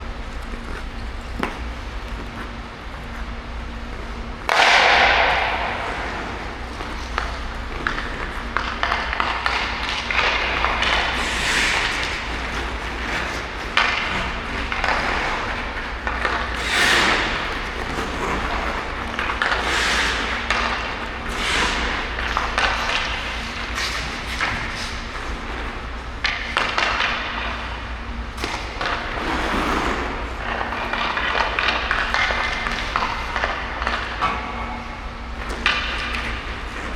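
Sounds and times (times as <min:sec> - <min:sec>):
low hum: 0:00.0 - 0:31.1
skate blades scraping on ice: 0:00.0 - 0:36.9.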